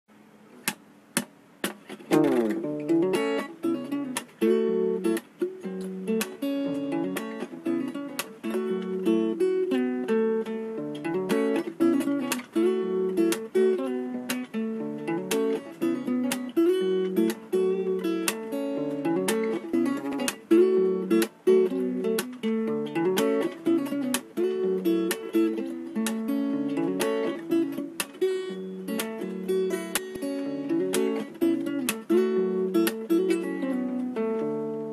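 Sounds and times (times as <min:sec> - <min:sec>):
acoustic guitar plucked chords: 0:00.5 - 0:34.9.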